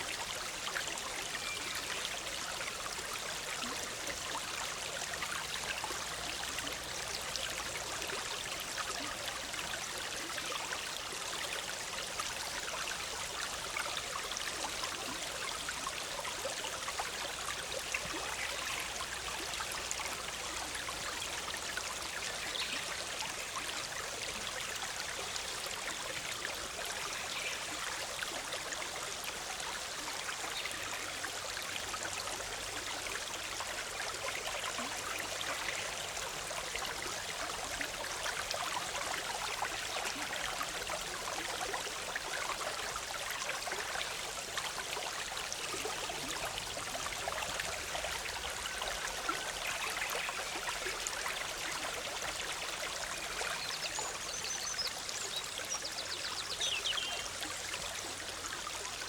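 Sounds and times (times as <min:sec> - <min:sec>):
stream bubbling over rocks: 0:00.0 - 0:59.0.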